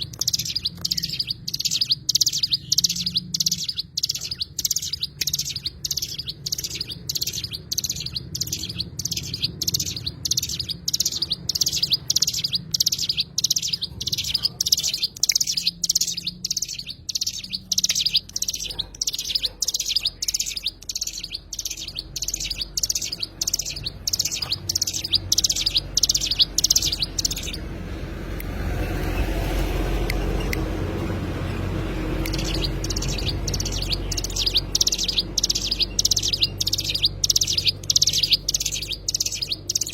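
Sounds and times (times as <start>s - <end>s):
songbird sharp chirps: 0.0s - 30.7s, 32.0s - 39.9s.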